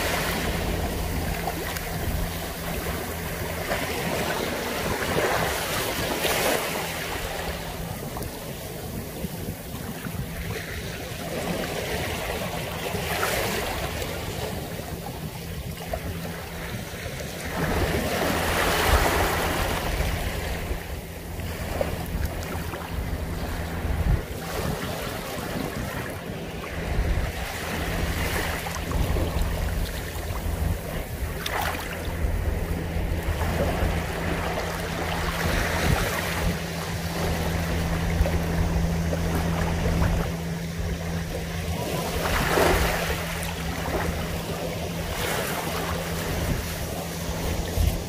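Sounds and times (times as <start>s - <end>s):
small waves lapping on shore: 0.0s - 48.0s
steady low rumble: 0.0s - 48.0s.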